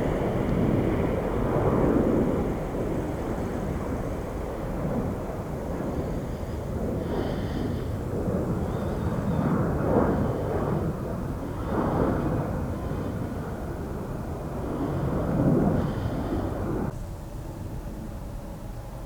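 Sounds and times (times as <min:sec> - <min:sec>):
faint high engine whine: 0:00.0 - 0:19.0
jet engines rumbling: 0:00.0 - 0:19.0.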